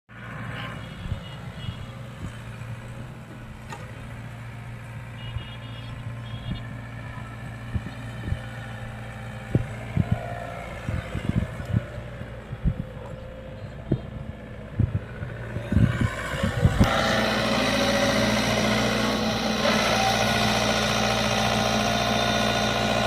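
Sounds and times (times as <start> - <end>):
machinery engine running: 1.9 - 23.0.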